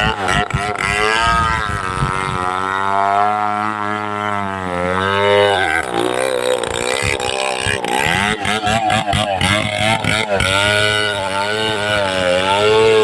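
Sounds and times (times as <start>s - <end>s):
chainsaw engine cutting: 0.0s - 13.0s.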